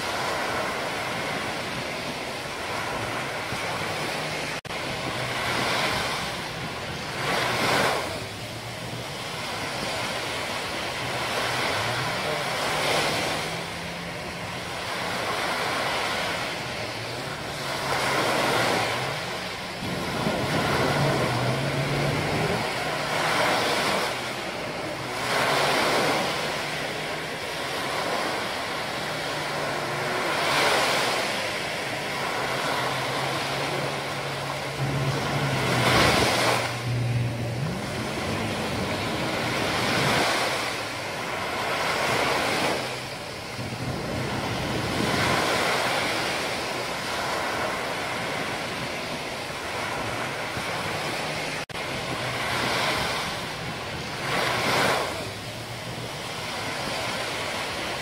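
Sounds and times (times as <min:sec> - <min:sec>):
waves washing up beach: 0:00.0 - 0:58.0.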